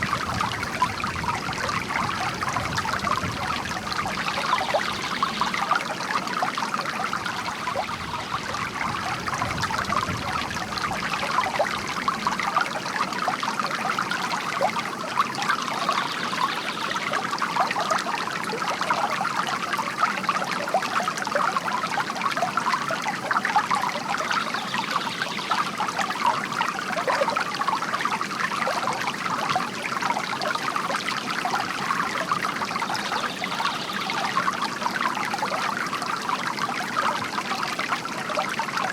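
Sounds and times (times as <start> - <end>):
bamboo fountain trickling: 0.0 - 38.9.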